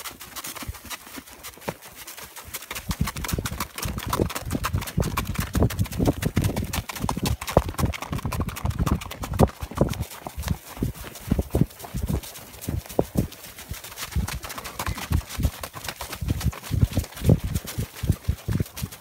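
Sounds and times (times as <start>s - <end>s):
horse hoofbeats on snow: 0.0s - 19.0s.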